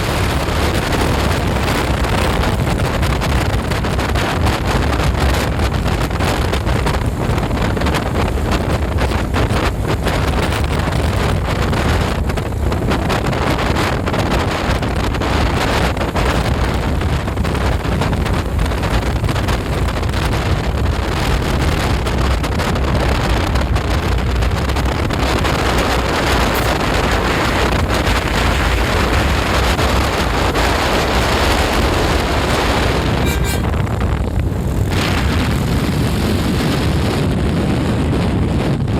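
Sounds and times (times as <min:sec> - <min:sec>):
large vehicle engine rumble: 0:00.0 - 0:38.9
wind noise on microphone: 0:00.0 - 0:38.9.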